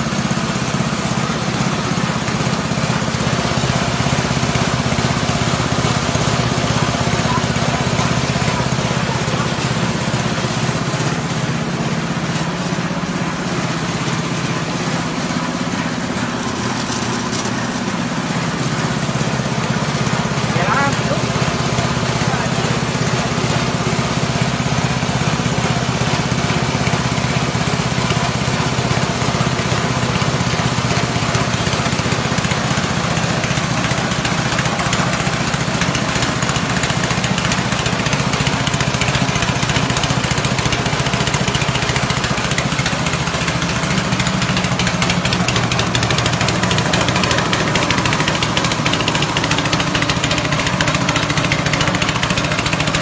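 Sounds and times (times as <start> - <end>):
continuous grinding noise: 0.0 - 53.0
grinding machine engine drone: 0.0 - 53.0.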